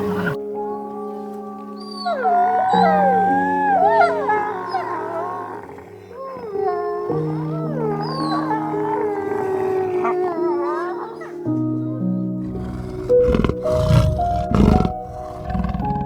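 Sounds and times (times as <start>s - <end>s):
animal howling: 0.0s - 0.4s, 1.2s - 11.6s, 12.4s - 16.0s
music with held notes: 0.0s - 16.0s.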